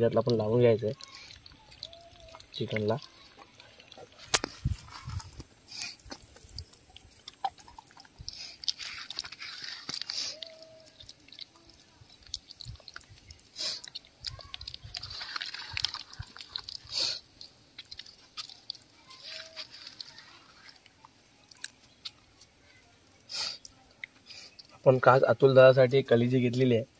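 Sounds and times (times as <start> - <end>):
hands squelching wet marinade: 0.0 - 25.1.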